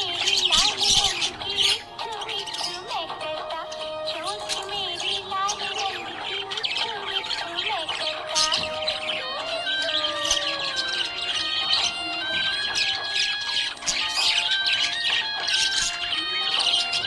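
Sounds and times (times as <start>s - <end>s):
background music: 0.0s - 17.0s
budgerigars chirping and squawking: 0.0s - 17.0s.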